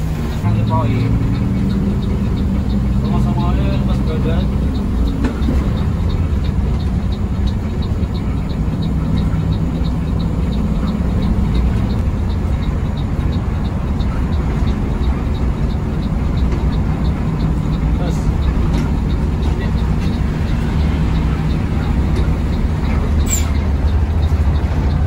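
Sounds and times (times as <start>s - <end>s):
bus engine and road drone: 0.0s - 25.0s
light regular ticking: 0.0s - 25.0s.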